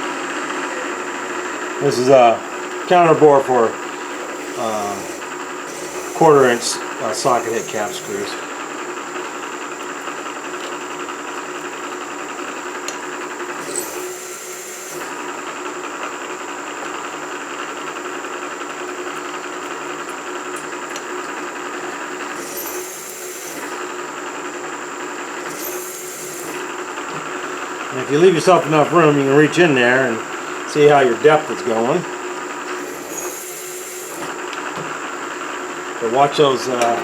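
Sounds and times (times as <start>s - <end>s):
milling machine spindle whining: 2.7s - 16.7s, 17.4s - 37.0s.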